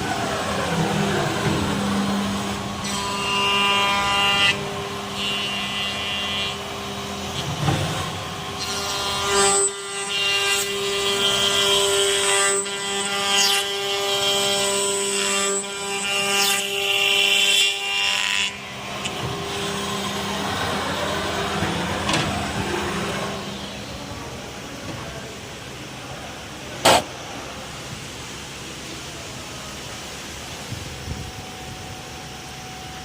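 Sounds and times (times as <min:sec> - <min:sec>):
machine motor whine: 0:00.0 - 0:14.2, 0:15.0 - 0:33.0.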